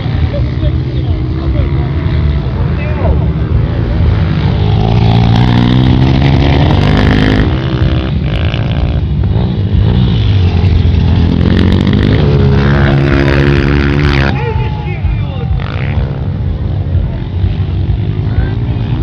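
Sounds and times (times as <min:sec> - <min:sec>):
dirt bike engine revving: 0:00.0 - 0:14.5, 0:15.5 - 0:19.0.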